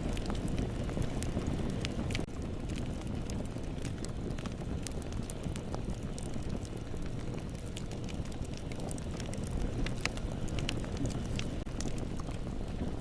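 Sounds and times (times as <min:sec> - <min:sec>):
bonfire rumble: 0:00.0 - 0:13.0
wood crackling and popping: 0:00.0 - 0:13.0.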